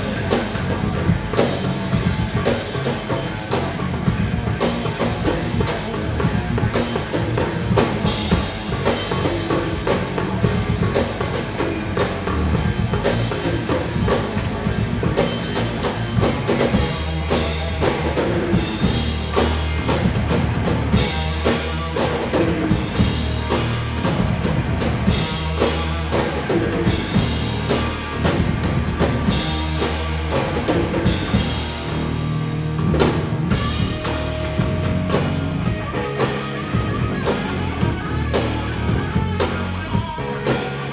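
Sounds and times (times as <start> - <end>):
heavy bass line: 0.0 - 40.9
rock music: 0.0 - 40.9.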